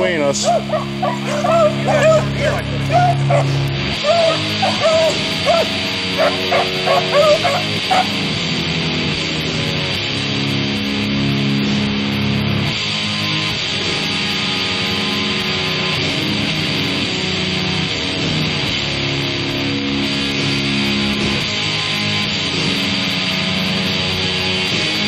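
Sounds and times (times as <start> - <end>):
rock music with guitar: 0.0 - 25.0.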